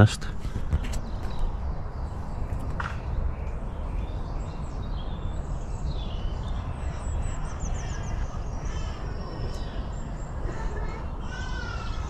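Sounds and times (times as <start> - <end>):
steady low rumble: 0.0 - 11.3
birds chirping: 0.0 - 12.0.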